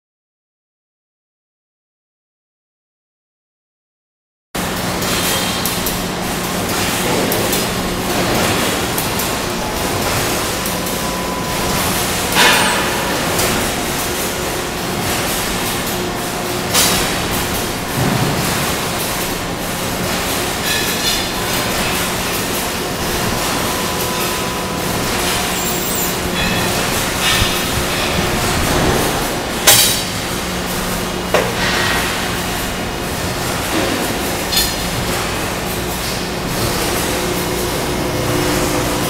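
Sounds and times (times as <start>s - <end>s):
factory machinery hum: 4.6s - 39.0s.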